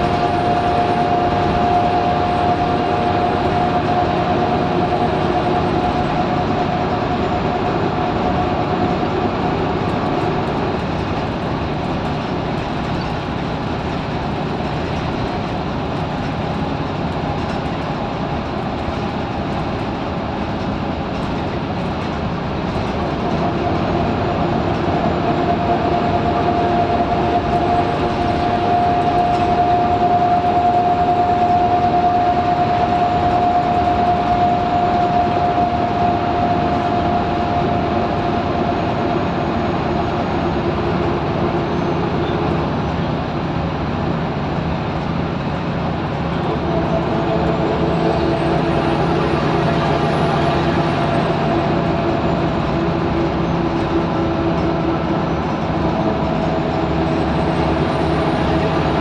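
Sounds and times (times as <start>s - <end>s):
bus engine and road noise: 0.0s - 59.0s
high drivetrain whine: 0.0s - 59.0s.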